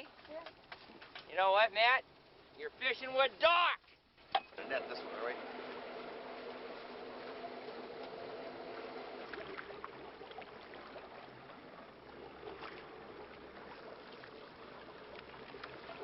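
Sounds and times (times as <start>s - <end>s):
boat motor hum: 0.0s - 16.0s
water wash: 0.0s - 16.0s.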